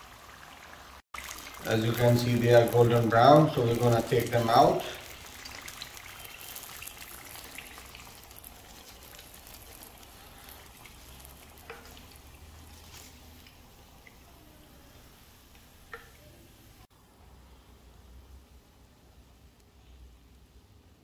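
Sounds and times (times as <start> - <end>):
food sizzling in hot oil: 0.0 - 16.9.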